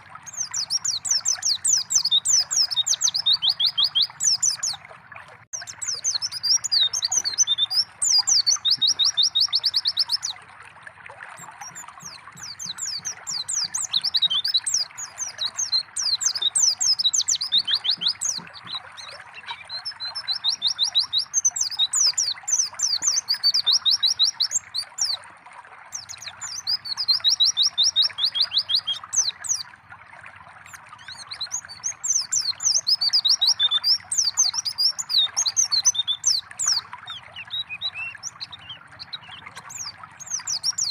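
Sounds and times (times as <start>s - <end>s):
bird twittering and trilling: 0.0s - 4.9s, 5.6s - 10.4s, 11.3s - 25.2s, 25.9s - 29.8s, 30.6s - 40.9s
trickling water: 0.0s - 40.9s.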